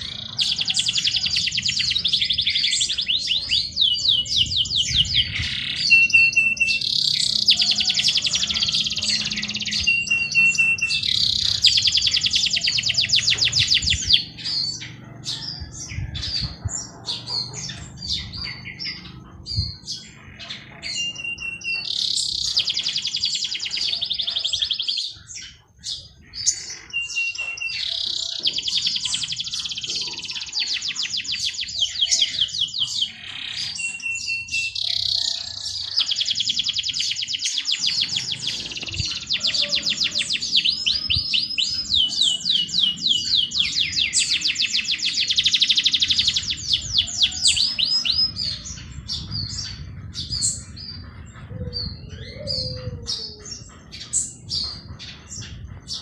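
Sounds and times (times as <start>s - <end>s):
bird chirps: 0.0s - 56.0s
songbird trilling: 0.0s - 56.0s.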